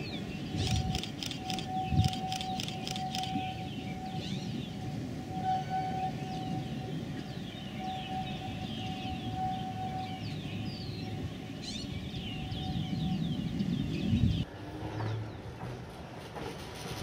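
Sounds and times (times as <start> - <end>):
birds chirping: 0.0 - 14.5
streetcar rolling on track: 0.0 - 17.0.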